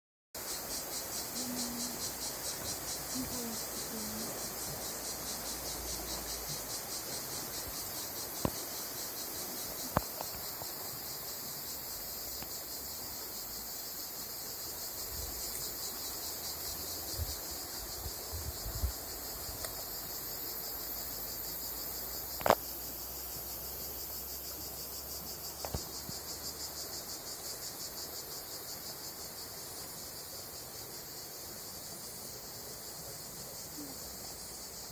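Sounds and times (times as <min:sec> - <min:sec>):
insects chirring: 0:00.4 - 0:34.9.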